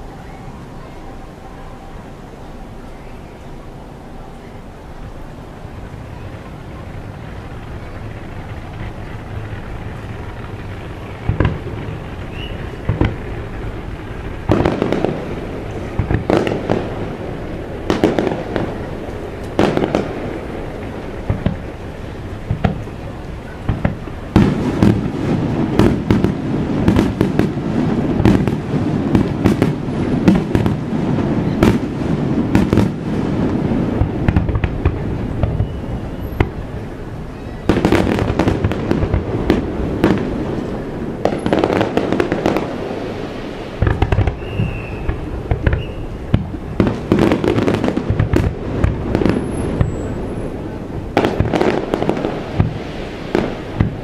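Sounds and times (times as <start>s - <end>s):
fireworks booming: 0.0s - 54.0s
fireworks crackling: 0.0s - 54.0s.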